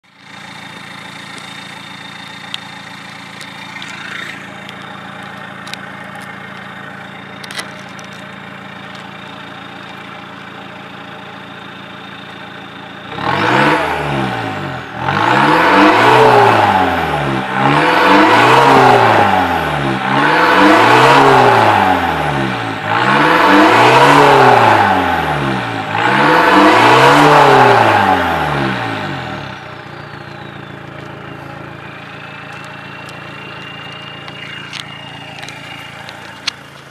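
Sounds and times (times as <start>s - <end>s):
diesel engine idling: 0.0s - 36.9s
engine revving: 0.1s - 36.9s.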